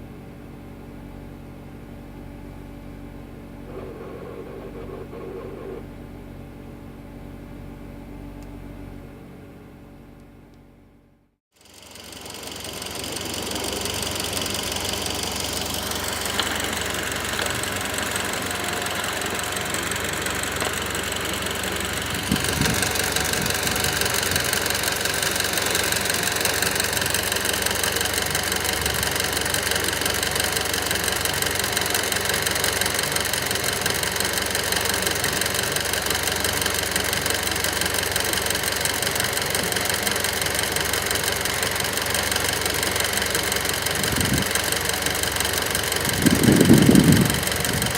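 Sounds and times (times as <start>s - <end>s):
car engine idling with knocking: 3.7s - 6.0s, 11.6s - 47.9s.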